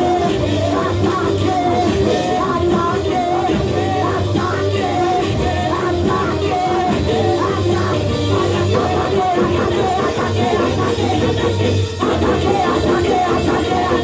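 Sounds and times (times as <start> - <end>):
backing singers: 0.0 - 14.0
lead singer on microphone: 0.0 - 14.0
live band playing: 0.0 - 14.0.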